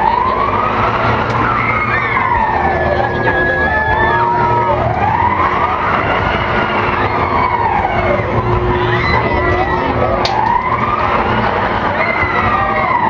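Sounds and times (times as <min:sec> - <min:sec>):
wailing siren: 0:00.0 - 0:13.0.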